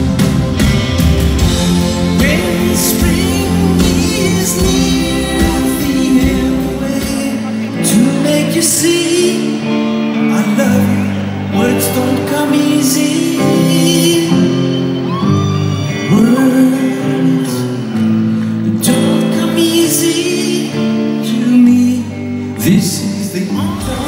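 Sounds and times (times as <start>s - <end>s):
bass guitar: 0.0s - 24.0s
live pop band playing: 0.0s - 24.0s
lead vocal singing: 1.4s - 18.0s, 18.6s - 24.0s.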